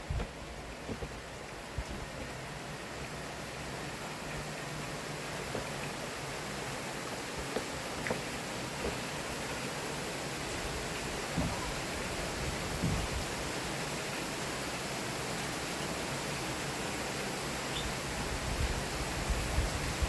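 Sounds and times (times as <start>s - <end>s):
heavy rain: 0.0s - 20.0s
raindrops tapping surfaces: 0.0s - 20.0s.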